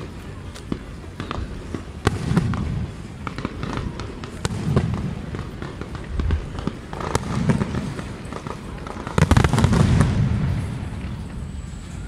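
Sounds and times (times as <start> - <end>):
fireworks booming: 0.0 - 12.0
fireworks cracking: 0.0 - 12.0.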